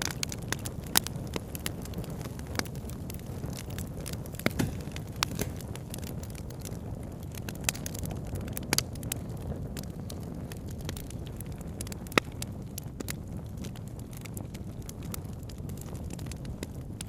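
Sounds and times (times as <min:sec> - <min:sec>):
campfire crackling: 0:00.0 - 0:17.0
sharp pops of burning wood: 0:00.0 - 0:17.0.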